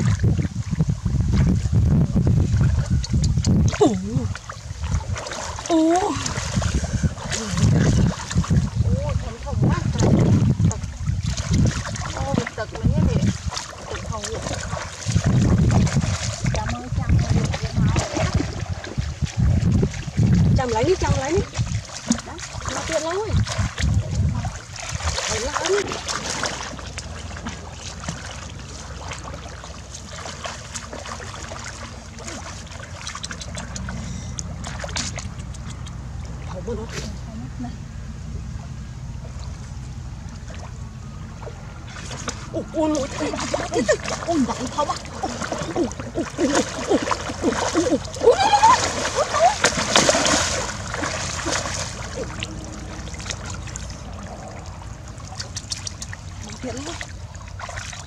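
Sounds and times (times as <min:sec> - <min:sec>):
muddy water splashing: 0:00.0 - 0:58.0
steady low rumble: 0:00.0 - 0:58.0.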